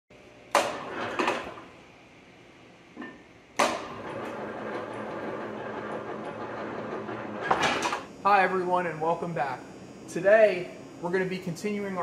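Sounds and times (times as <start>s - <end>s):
machine hum: 0.1s - 12.0s.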